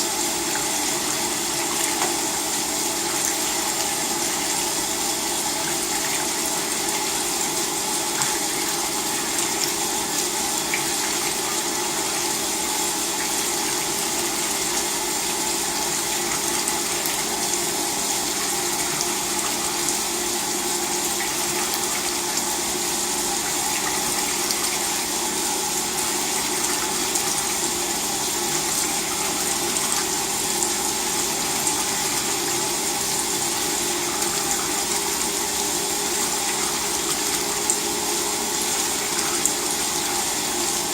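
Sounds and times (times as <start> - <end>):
water rushing in washing machine: 0.0 - 40.9.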